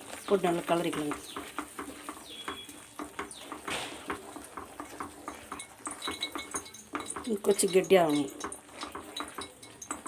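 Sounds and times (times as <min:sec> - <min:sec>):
spoon scraping and tapping in pan: 0:00.6 - 0:10.0.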